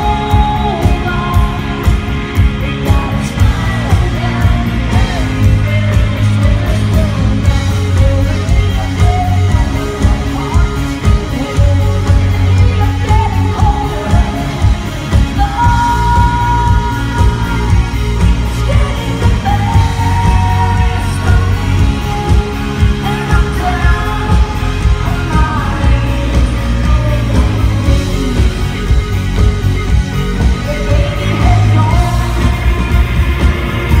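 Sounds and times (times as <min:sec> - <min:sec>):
woman singing: 0:00.0 - 0:29.6, 0:30.3 - 0:34.0
live rock band playing: 0:00.0 - 0:34.0.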